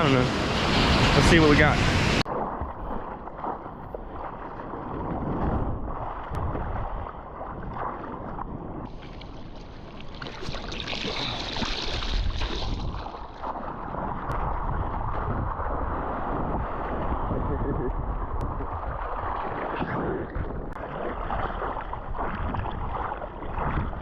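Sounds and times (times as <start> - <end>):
wind buffeting microphone: 0.0 - 10.4, 11.1 - 24.0
sea water rushing and splashing: 0.0 - 24.0.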